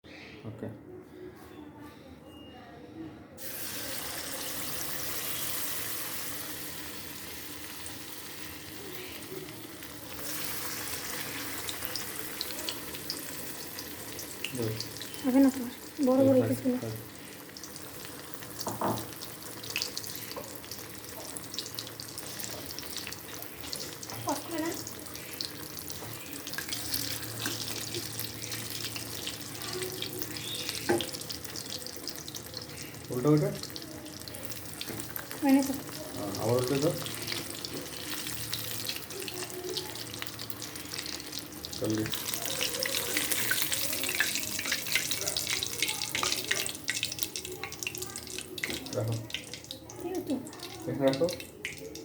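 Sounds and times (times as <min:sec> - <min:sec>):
chicken sizzling in hot oil: 0:03.4 - 0:52.0
oil popping and crackling: 0:03.4 - 0:52.0.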